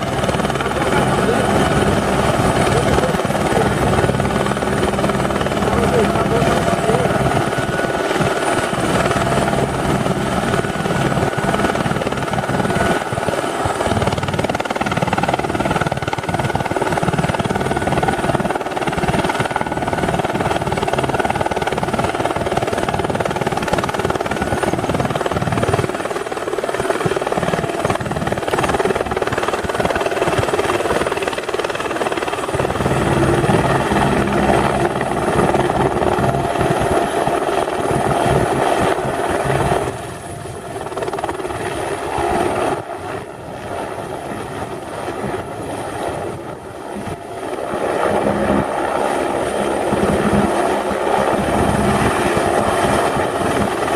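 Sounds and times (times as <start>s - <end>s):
helicopter rotor and turbine whine: 0.0s - 53.9s.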